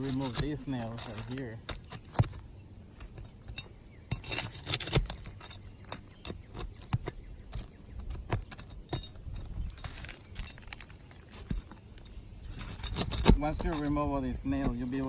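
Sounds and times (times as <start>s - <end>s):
pry bar clicking and scraping nails: 0.0s - 14.0s.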